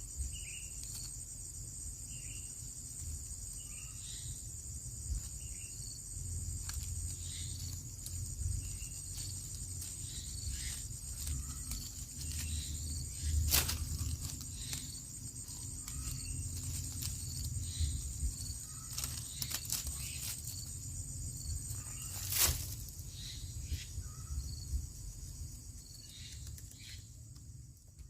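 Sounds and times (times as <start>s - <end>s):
high-pitched insect drone: 0.0s - 27.2s.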